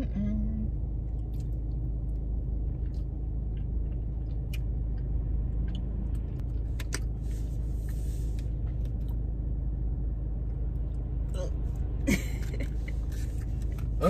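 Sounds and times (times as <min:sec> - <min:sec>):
air conditioning rumble: 0:00.0 - 0:14.0.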